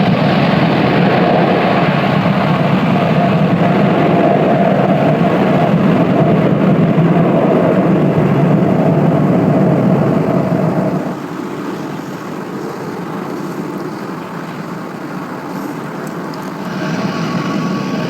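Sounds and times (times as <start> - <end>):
airliner engine noise: 0.0 - 18.0.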